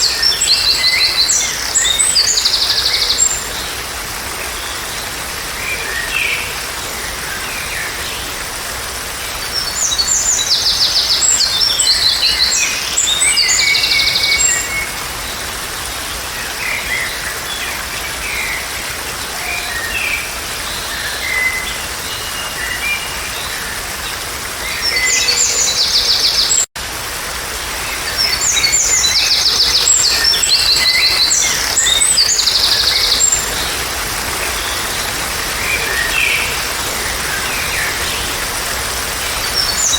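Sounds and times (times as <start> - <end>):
songbirds singing: 0.0 - 26.7, 27.8 - 39.9.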